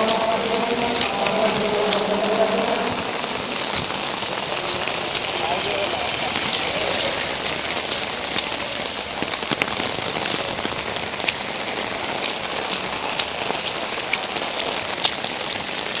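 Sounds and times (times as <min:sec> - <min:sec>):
heavy rain falling: 0:00.0 - 0:16.0
raindrops tapping close by: 0:00.0 - 0:16.0.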